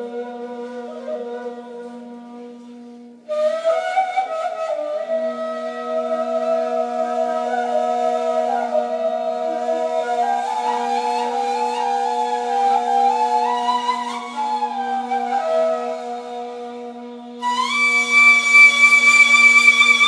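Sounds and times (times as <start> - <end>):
breathy higher flute phrase: 0.0 - 18.9
reed flute low held note: 0.0 - 20.0.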